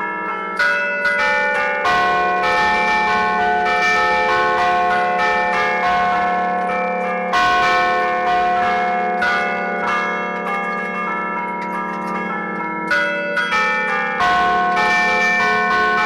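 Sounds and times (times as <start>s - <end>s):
church bells playing a festive tune: 0.0s - 16.0s.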